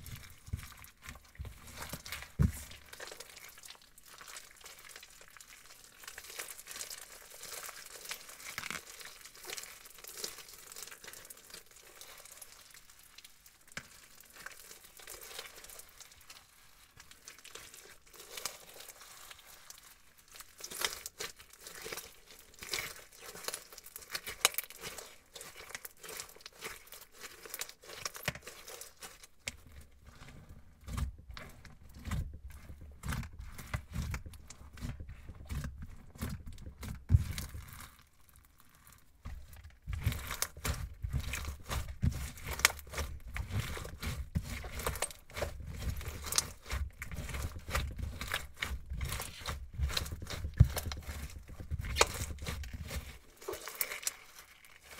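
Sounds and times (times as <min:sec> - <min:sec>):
crunchy slime crackling and popping: 0:00.0 - 0:54.9.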